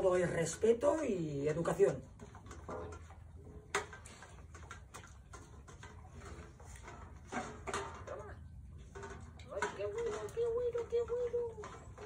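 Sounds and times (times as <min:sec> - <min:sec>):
dogs eating from metal bowls: 0:00.0 - 0:12.0.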